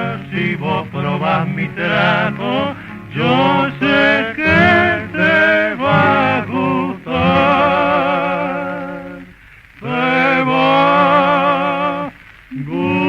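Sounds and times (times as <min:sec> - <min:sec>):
guitar accompaniment: 0:00.0 - 0:13.0
old record surface noise: 0:00.0 - 0:13.0
two men singing duet: 0:00.0 - 0:13.0.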